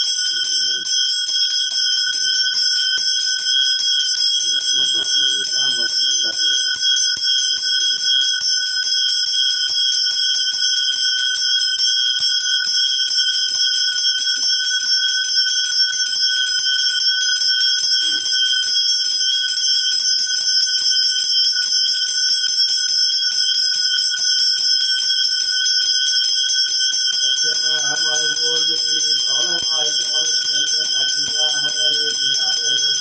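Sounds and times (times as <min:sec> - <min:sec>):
bell ringing rapidly: 0:00.0 - 0:13.7, 0:15.0 - 0:33.0.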